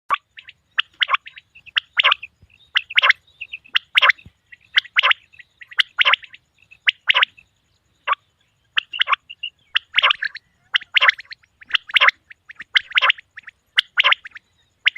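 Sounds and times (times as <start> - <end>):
quail calling: 0.1 - 7.4, 8.0 - 14.9.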